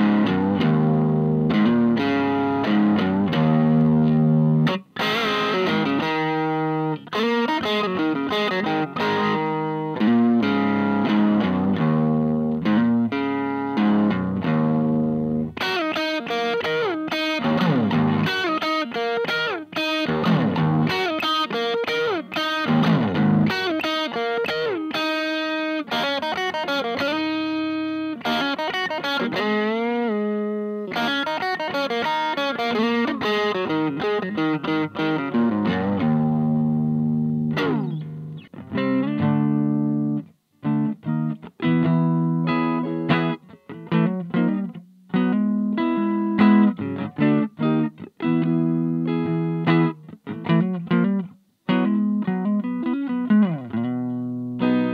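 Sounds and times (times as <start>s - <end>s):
electric guitar playing: 0.0s - 54.9s.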